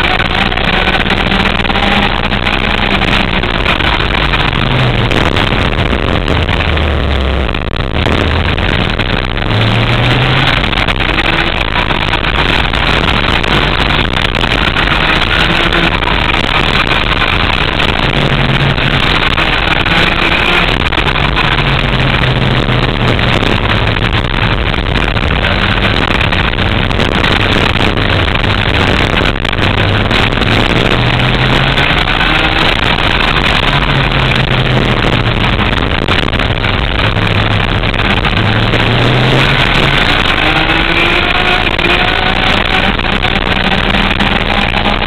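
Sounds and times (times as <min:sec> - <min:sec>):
go-kart engine racing: 0:00.0 - 0:45.0.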